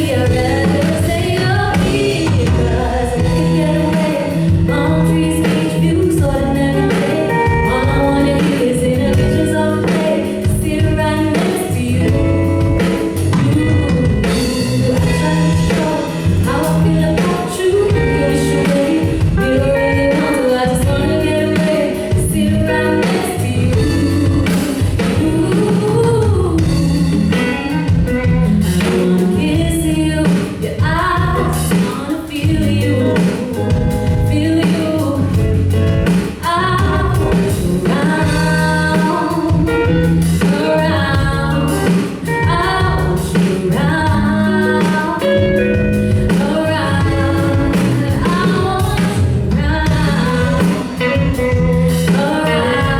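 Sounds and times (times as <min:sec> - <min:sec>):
bass guitar: 0:00.0 - 0:52.9
drum kit: 0:00.0 - 0:52.9
guitar: 0:00.0 - 0:52.9
woman singing: 0:00.0 - 0:52.9.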